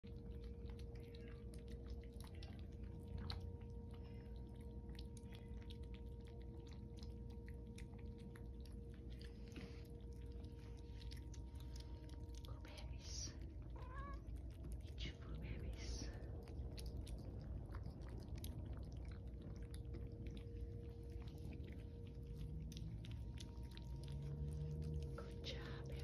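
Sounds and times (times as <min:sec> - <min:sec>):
faint steady hum: 0:00.0 - 0:26.0
kittens chewing clicks: 0:00.0 - 0:26.0.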